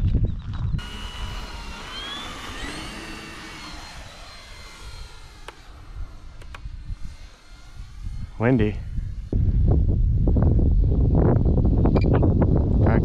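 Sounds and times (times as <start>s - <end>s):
wind rumble on microphone: 0.0s - 13.0s
model plane motor whining: 0.8s - 11.6s.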